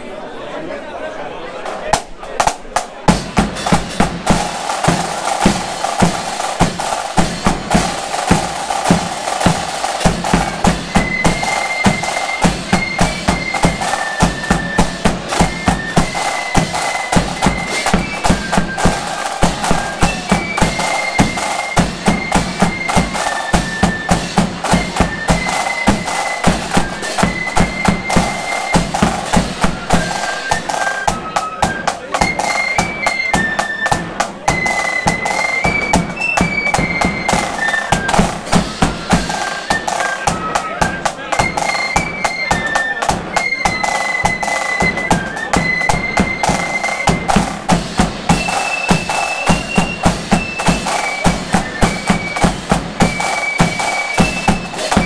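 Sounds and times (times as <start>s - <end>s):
drums and cymbals beat: 1.9s - 55.0s
flutes playing melody: 3.1s - 55.0s.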